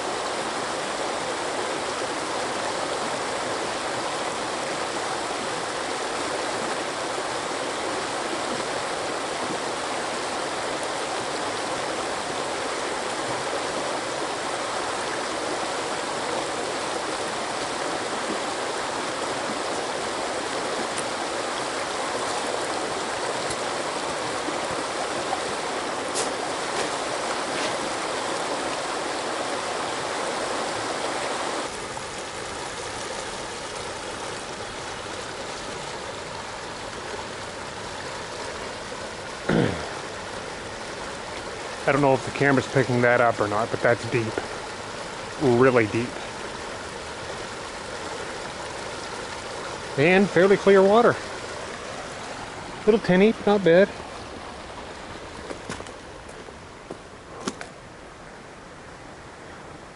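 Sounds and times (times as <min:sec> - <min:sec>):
river rushing over rocks: 0:00.0 - 0:59.9.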